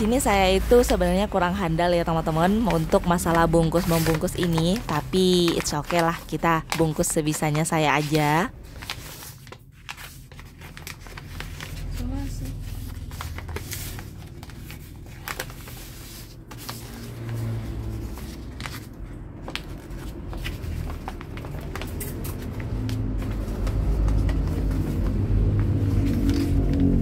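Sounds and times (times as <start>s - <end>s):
greaseproof paper crinkling: 2.0s - 27.0s.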